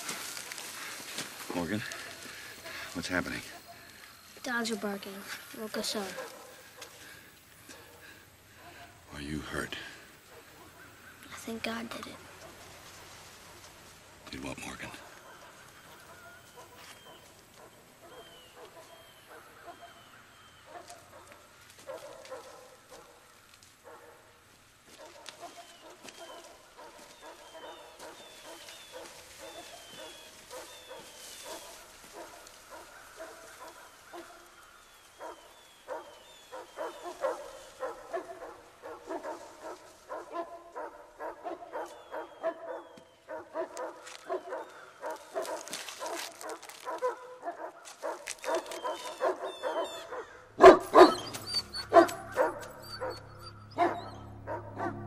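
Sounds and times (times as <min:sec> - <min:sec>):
dogs barking: 0:00.0 - 0:04.0, 0:04.8 - 0:11.1, 0:12.1 - 0:55.0.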